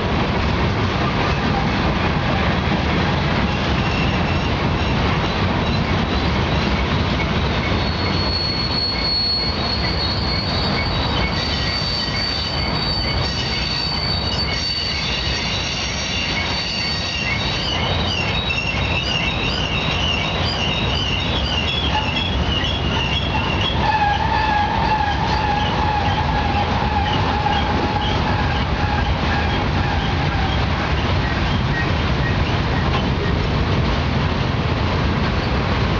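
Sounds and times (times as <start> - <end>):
freight train rumble: 0.0 - 35.9
train wheel squeal: 1.2 - 33.4.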